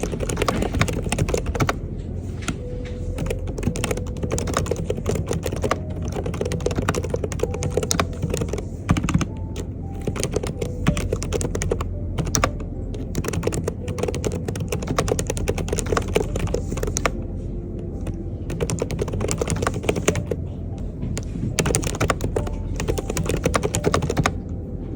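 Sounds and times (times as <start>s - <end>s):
mechanical keyboard typing: 0.0s - 17.2s, 17.9s - 20.4s, 21.1s - 24.4s
steady low hum: 0.0s - 24.9s.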